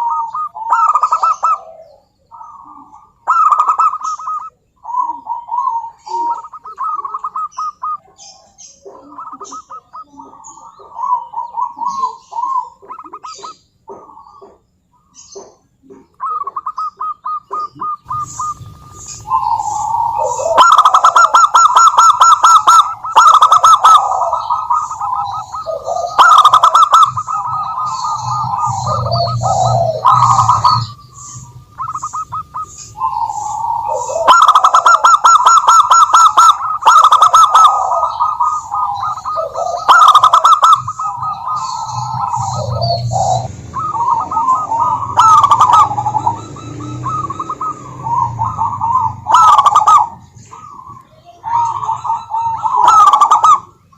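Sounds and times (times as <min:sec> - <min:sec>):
doves trilling coos: 0:00.0 - 0:53.9.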